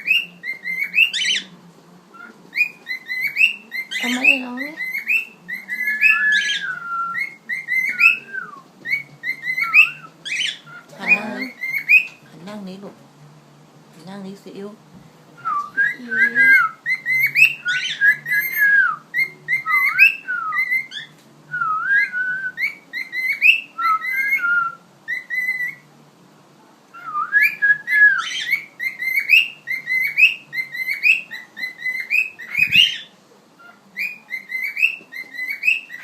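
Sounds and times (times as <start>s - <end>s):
cockatiel whistling a tune: 0.0s - 1.5s, 2.2s - 12.2s, 15.4s - 25.8s, 26.9s - 36.0s.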